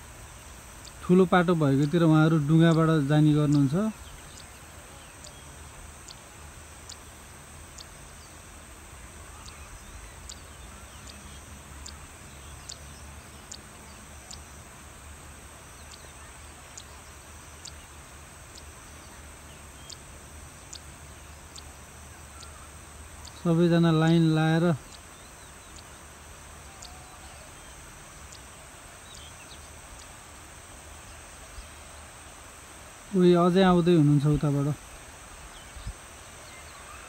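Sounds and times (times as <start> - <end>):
low rumble and hiss: 0.0 - 37.0.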